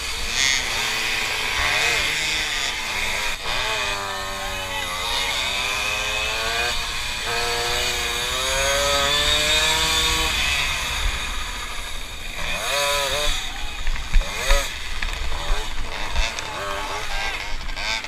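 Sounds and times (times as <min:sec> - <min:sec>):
moped engine revving: 0:00.0 - 0:18.0.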